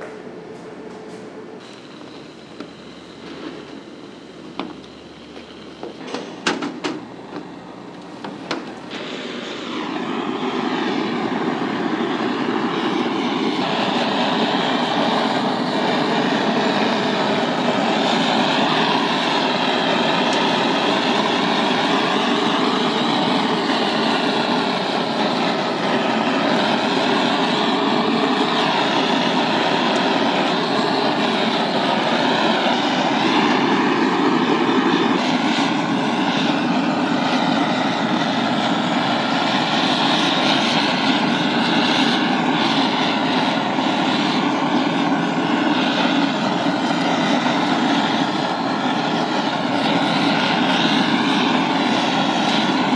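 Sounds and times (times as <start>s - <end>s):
blowtorch flame hissing: 1.6s - 52.9s.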